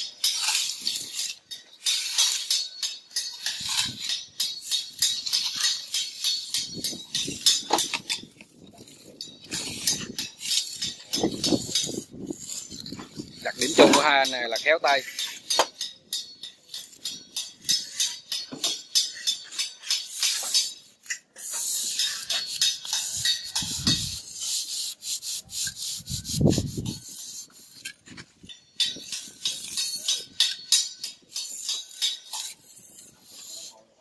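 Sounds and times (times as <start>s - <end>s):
trowel scraping mortar: 0.0s - 34.0s.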